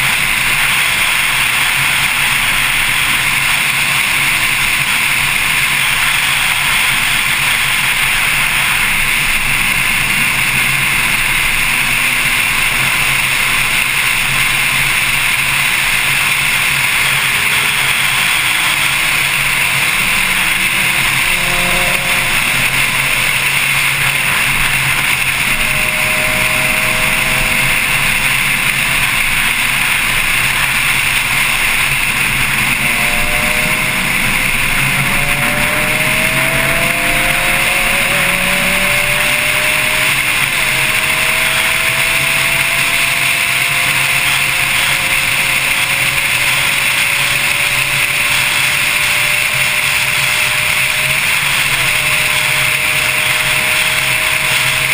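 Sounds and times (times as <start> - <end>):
faint car engine: 0.0 - 54.9
wind and road noise: 0.0 - 54.9.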